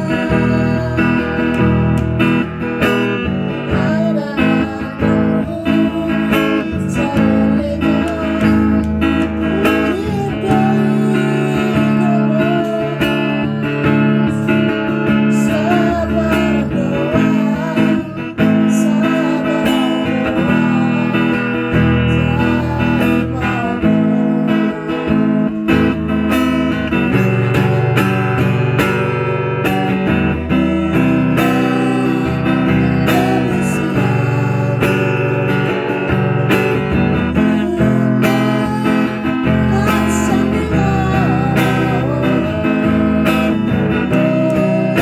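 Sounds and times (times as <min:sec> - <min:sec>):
acoustic guitar strumming: 0:00.0 - 0:45.0
person singing: 0:00.0 - 0:45.0.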